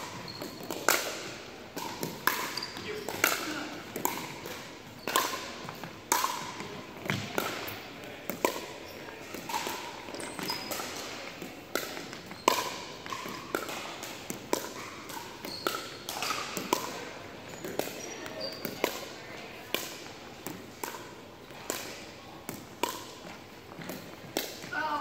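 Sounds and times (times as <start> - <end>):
paddles hitting plastic ball: 0.0 - 24.8.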